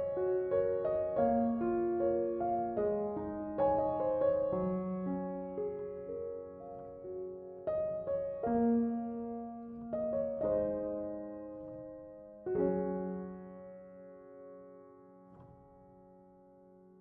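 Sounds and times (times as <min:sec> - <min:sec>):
slow soft piano: 0:00.0 - 0:17.0.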